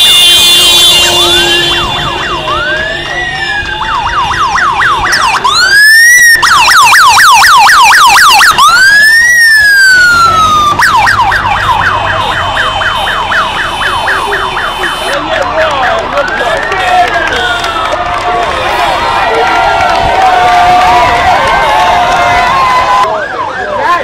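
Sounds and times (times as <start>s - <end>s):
police motorcycle siren: 0.0s - 24.0s.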